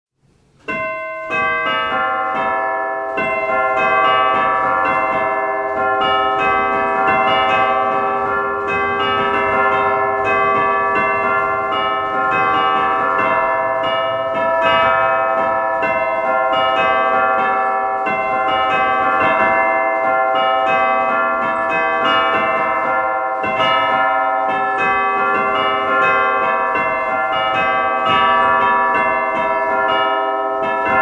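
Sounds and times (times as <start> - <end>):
church bells pealing: 0.6 - 31.0.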